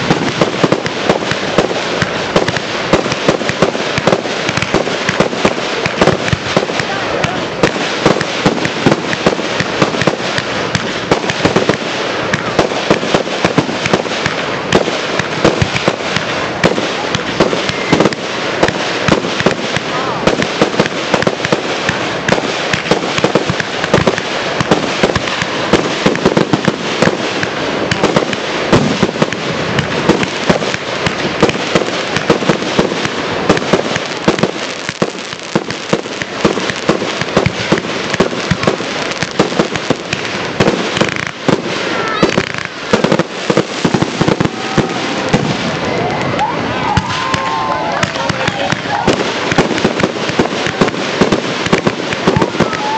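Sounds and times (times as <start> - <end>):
fireworks bursting in a barrage: 0.0 - 52.9.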